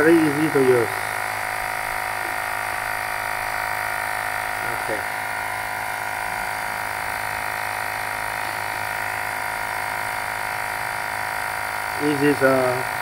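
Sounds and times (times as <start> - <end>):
electric air compressor running: 0.0 - 13.0.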